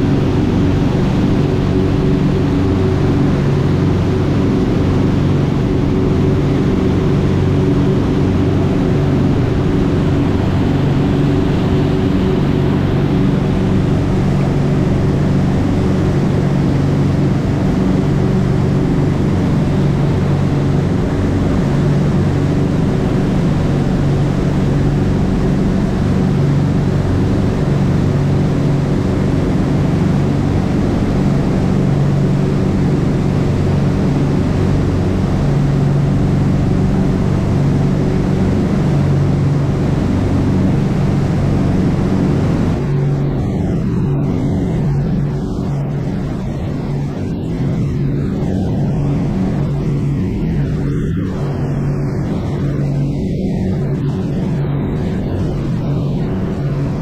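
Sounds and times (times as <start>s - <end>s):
boat engines running: 0.0s - 56.9s
churning wake water: 0.0s - 57.0s.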